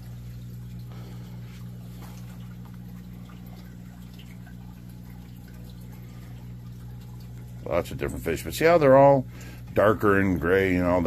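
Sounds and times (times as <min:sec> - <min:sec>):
aquarium equipment humming: 0:00.0 - 0:11.0
water dripping and trickling: 0:00.0 - 0:11.0.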